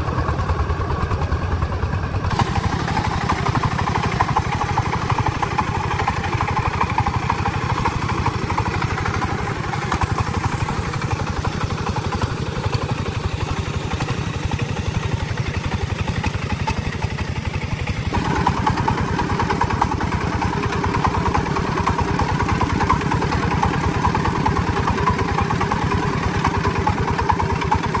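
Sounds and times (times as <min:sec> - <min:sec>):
truck engine chugging: 0:00.0 - 0:28.0.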